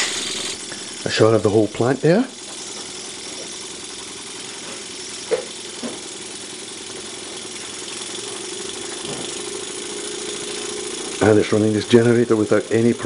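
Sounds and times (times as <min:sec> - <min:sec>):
steam engine mechanical rattle: 0:00.0 - 0:13.0.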